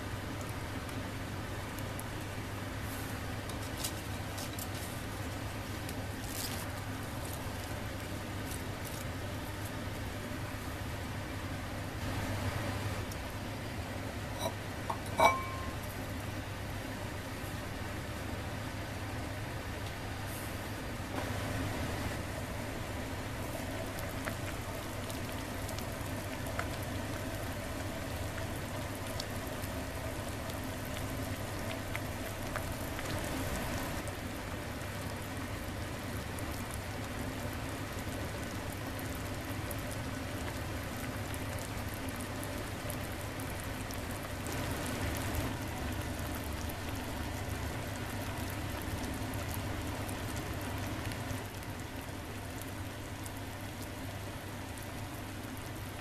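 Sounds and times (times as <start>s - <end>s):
broth simmering with fine bubbling: 0.0s - 56.0s.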